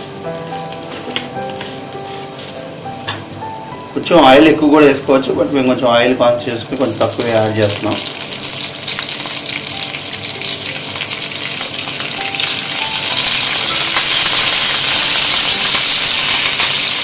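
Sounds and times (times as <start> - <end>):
spices sizzling in oil: 0.0 - 4.0, 5.9 - 17.0.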